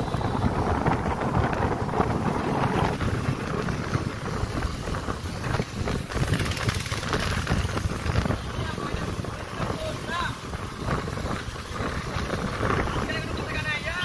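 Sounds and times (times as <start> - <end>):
motorcycle engines: 0.0 - 14.0
wind rushing over microphone: 0.0 - 14.0.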